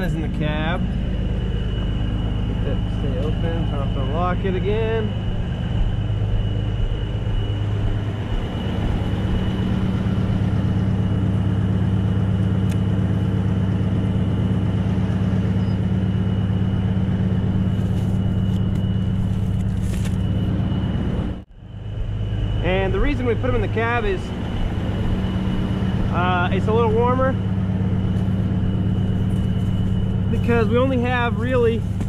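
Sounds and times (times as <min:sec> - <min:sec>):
diesel truck engine idling: 0:00.0 - 0:32.0
high whine: 0:00.0 - 0:32.0.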